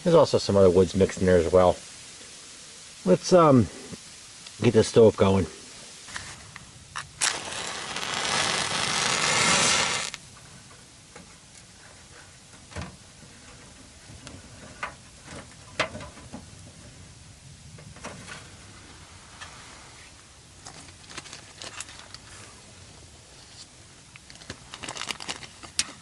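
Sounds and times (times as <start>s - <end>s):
loud hiss of wood stove: 0.0s - 24.8s.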